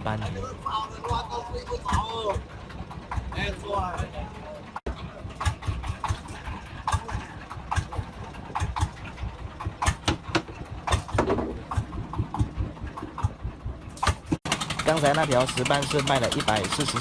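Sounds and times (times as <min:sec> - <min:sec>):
engine idling: 0:00.0 - 0:17.0
sharp clacks and knocks: 0:01.0 - 0:17.0.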